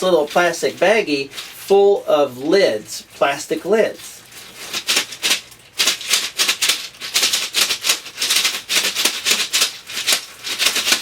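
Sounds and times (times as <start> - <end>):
plastic bag shaker rattling: 0.0 - 11.0.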